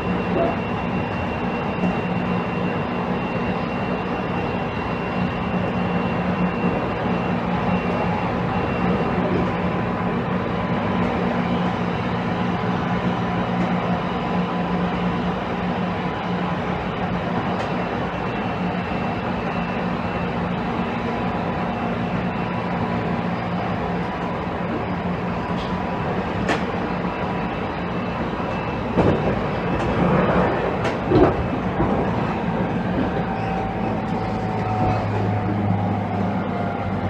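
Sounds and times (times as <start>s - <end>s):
train motor hum: 0.0s - 37.0s.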